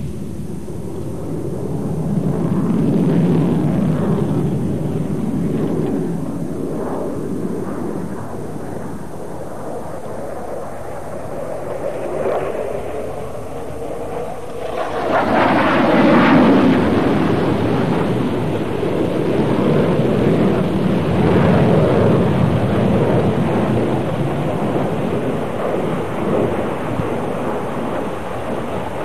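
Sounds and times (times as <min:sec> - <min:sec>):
jet engine rumble: 0:00.0 - 0:29.0.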